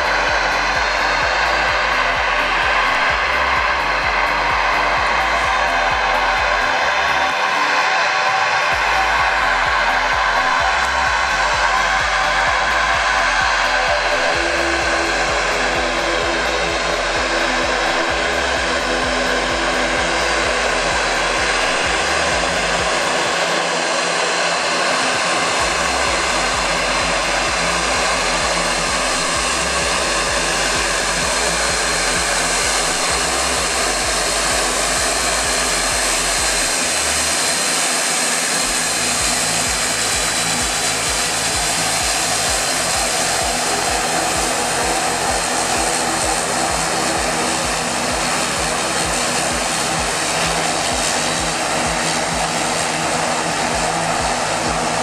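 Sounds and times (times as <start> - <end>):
propeller airplane engines taxiing: 0.0 - 55.0.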